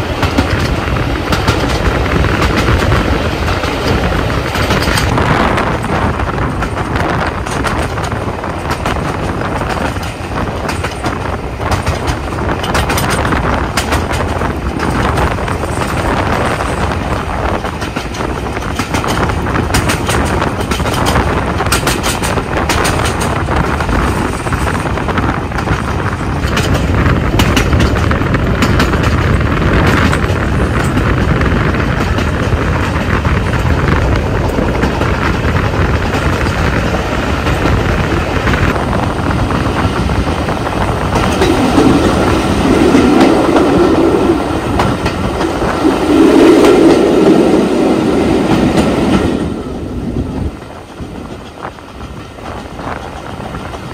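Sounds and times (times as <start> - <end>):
wheels clattering over rail joints: 0.0 - 47.2
train carriage rumble: 0.0 - 53.9.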